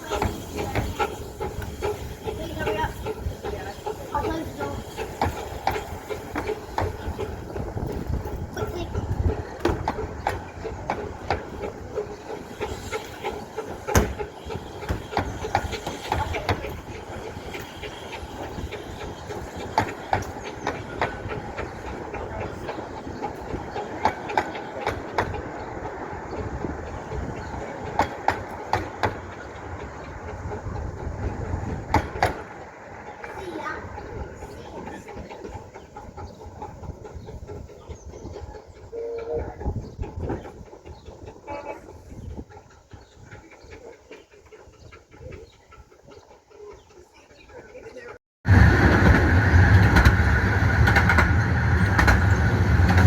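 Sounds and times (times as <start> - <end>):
train rumbling: 0.0 - 53.0
wheels clicking over rail joints: 0.0 - 53.0.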